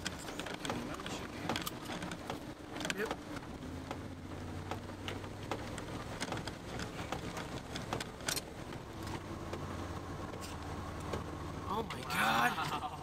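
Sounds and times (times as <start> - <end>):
sharp taps on vehicle: 0.0 - 11.3
engine and tyre hum: 0.0 - 13.0.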